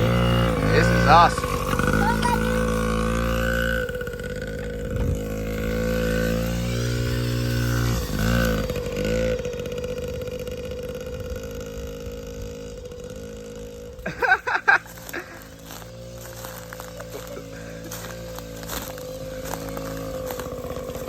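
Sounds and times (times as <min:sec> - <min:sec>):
small motorbike engine running: 0:00.0 - 0:21.0.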